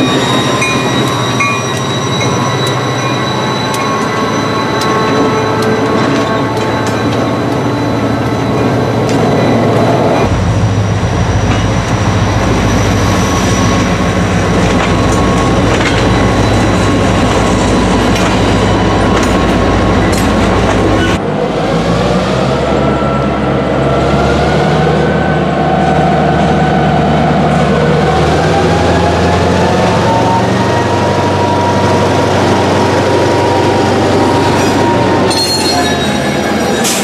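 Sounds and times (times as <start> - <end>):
diesel locomotive engine: 0.0 - 37.0.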